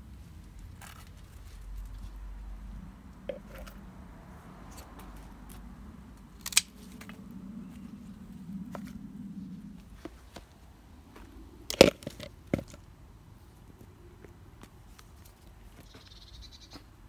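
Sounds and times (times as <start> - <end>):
low steady background rumble: 0.0 - 17.0.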